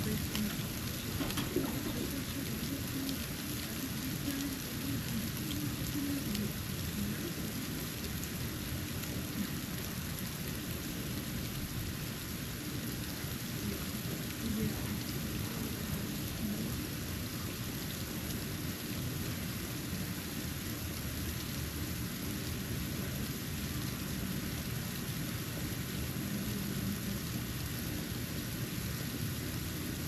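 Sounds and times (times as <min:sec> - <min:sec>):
snow falling hiss with ticks: 0:00.0 - 0:30.0.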